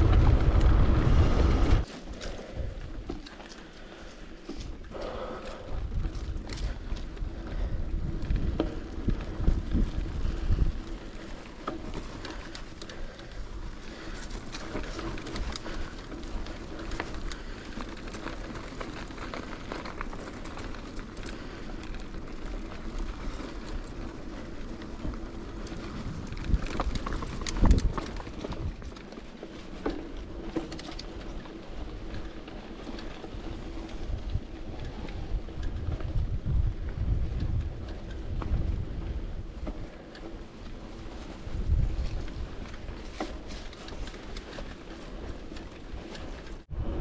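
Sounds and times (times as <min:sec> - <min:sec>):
wind buffeting microphone: 0:00.0 - 0:03.2, 0:03.8 - 0:47.0
bicycle clicks: 0:00.0 - 0:47.0
bicycle tyre and drivetrain rush: 0:00.0 - 0:47.0.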